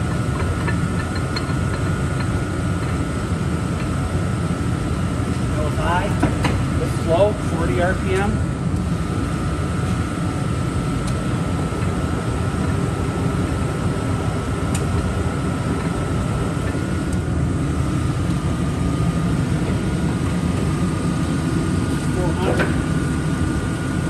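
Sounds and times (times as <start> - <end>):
lathe running: 0.0 - 24.0.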